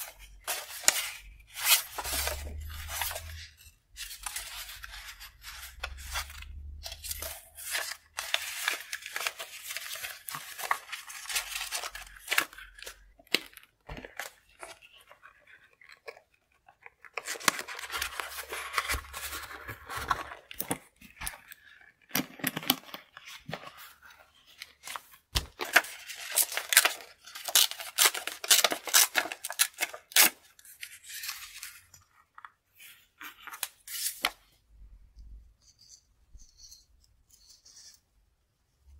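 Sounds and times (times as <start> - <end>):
paper rustling: 0.0 - 34.6.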